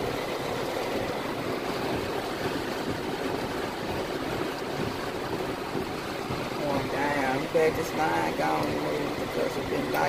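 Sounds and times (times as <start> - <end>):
heavy rain on a car: 0.0 - 10.0.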